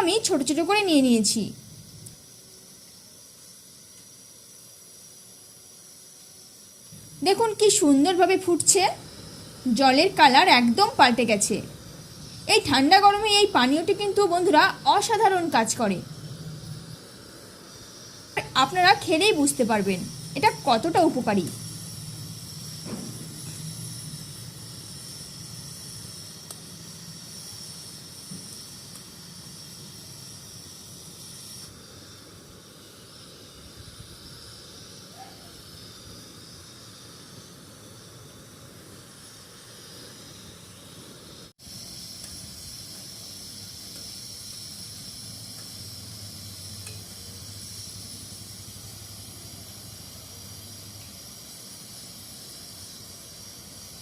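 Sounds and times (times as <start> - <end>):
water boiling with steam hiss: 0.0 - 54.0.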